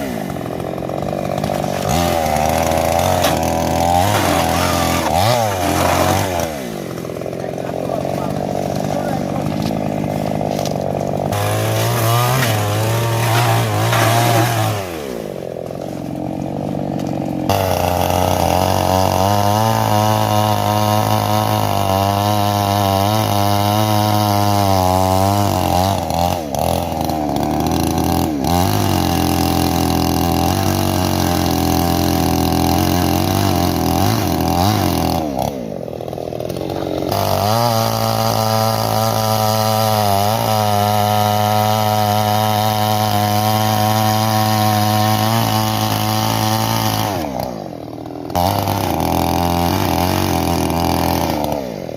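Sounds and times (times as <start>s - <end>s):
chainsaw running: 0.0s - 51.9s.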